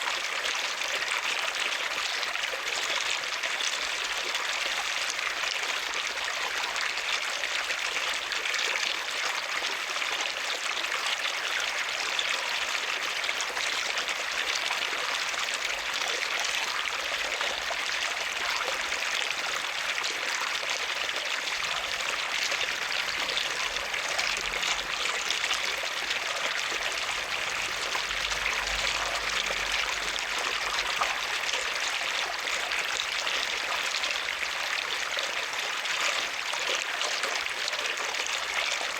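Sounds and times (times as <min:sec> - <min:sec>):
running water flowing: 0:00.0 - 0:38.9.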